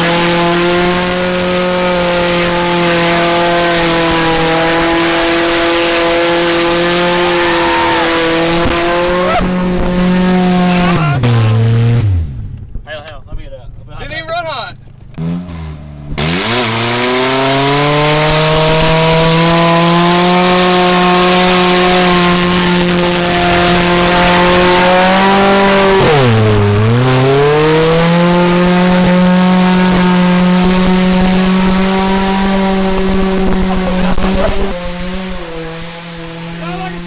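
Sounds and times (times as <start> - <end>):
car engine at high revs: 0.0 - 12.8, 14.8 - 37.0.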